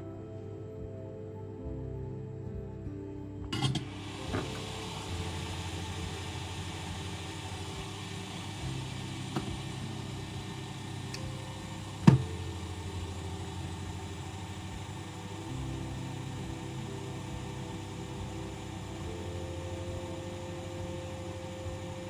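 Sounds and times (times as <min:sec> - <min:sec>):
low hum: 0:00.0 - 0:22.0
steady hiss: 0:03.5 - 0:22.0.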